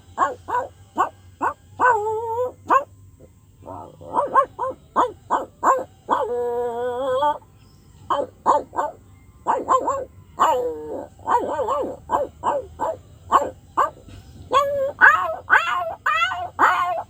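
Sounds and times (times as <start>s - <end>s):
dog barking: 0.1s - 2.9s, 3.6s - 7.4s, 8.1s - 17.0s
dog whining: 0.2s - 2.9s, 3.6s - 7.4s, 8.1s - 17.0s.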